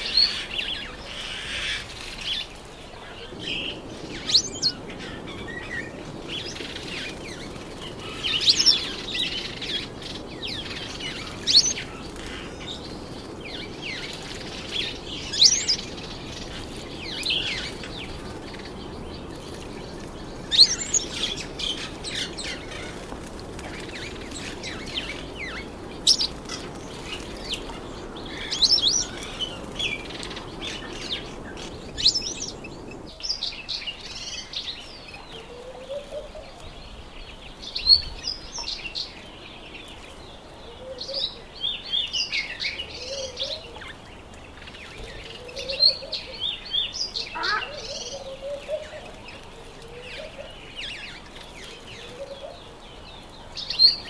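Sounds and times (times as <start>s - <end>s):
small birds chirping: 0.0s - 54.0s
steady low hiss: 0.0s - 54.0s.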